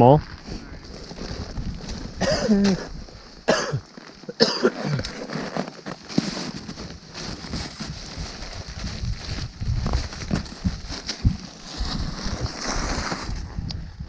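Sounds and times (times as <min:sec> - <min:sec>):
clothing rustling: 0:00.4 - 0:13.3.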